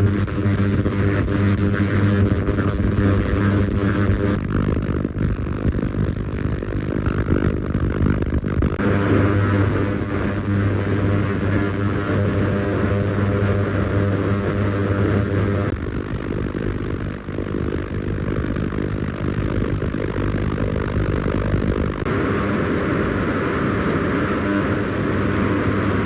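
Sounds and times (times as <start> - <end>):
ultrasonic cleaner buzzing hum: 0.0 - 26.0.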